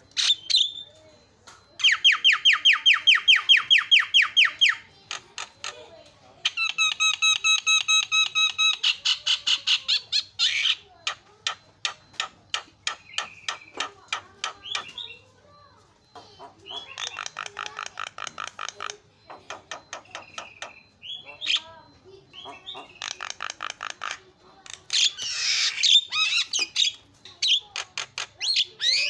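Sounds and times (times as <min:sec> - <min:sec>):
bird chattering song: 0:00.0 - 0:29.0.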